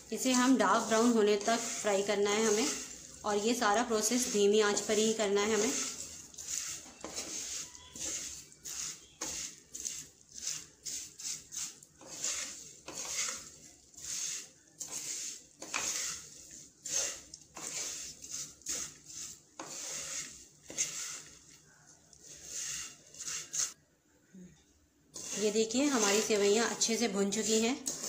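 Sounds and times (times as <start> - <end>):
wooden spatula scraping a pan: 0.0 - 23.8, 25.1 - 28.0.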